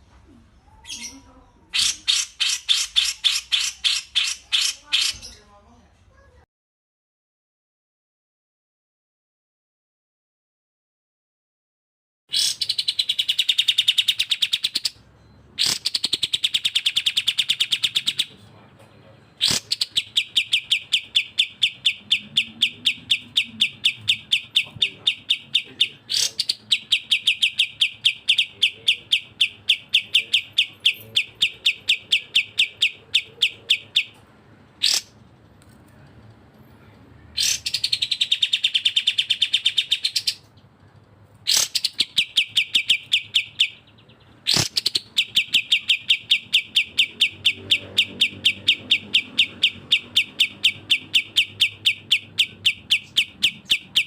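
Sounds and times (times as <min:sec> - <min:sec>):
bulbuls chirping: 0:00.3 - 0:05.6, 0:12.3 - 0:54.0.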